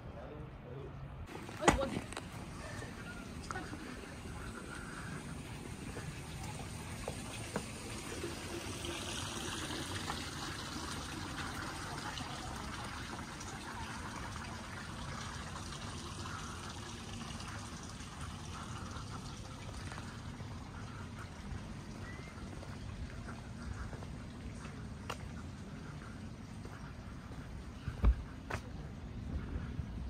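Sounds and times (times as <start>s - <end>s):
running water trickling: 1.3s - 28.0s.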